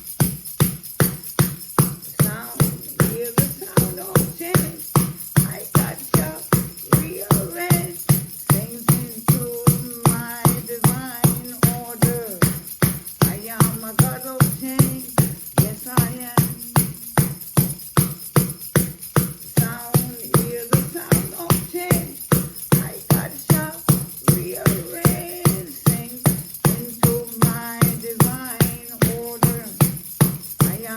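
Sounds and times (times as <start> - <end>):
music with steady beat and melody: 0.0 - 30.9.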